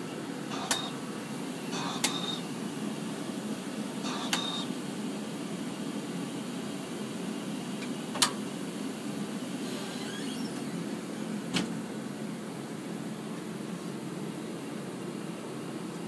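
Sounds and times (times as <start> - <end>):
projector and ventilation hum: 0.0 - 16.0.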